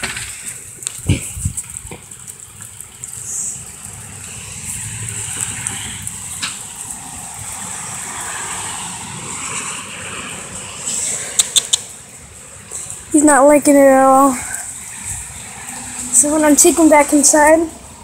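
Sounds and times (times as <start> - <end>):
hard rain falling: 0.0 - 18.0.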